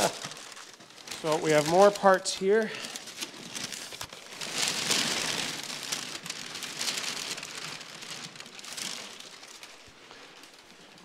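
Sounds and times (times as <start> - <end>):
packing paper rustling and crinkling: 0.0 - 11.0.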